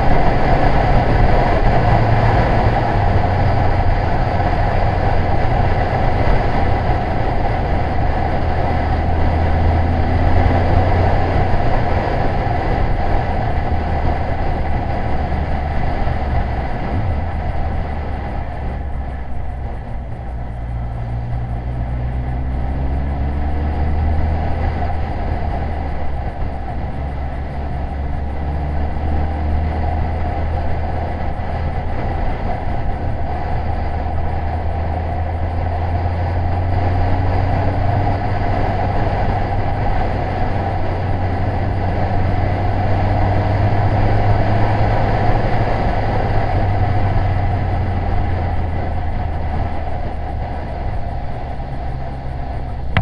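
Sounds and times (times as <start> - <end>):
motorcycle engine hum: 0.0 - 53.0
wind and road noise: 0.0 - 53.0.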